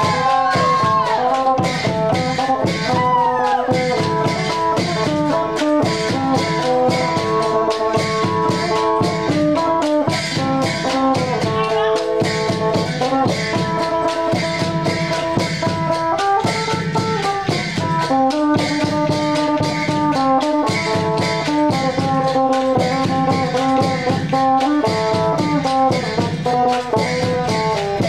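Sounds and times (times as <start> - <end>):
reedy wind instrument melody: 0.0 - 28.0
wooden clappers clacking: 0.0 - 28.0.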